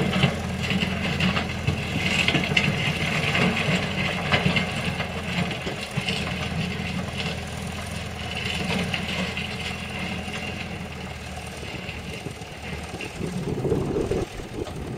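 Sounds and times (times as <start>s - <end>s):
clatter on gravel: 0.0s - 14.9s
diesel engine running: 0.0s - 14.9s.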